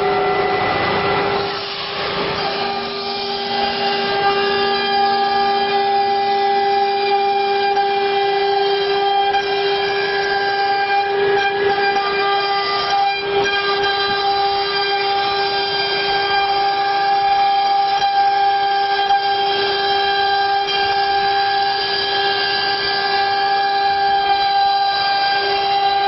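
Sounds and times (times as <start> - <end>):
low machine tone: 0.0 - 26.0
machine noise: 0.0 - 26.0
router spindle whine: 0.0 - 26.0.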